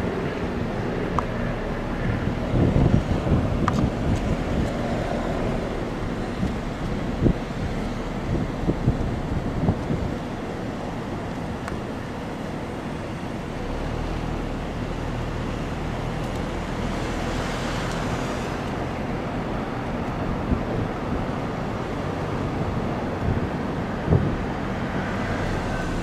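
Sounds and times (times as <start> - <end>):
wind rumble on microphone: 0.0 - 12.1, 14.1 - 26.0
road traffic noise: 0.0 - 26.0.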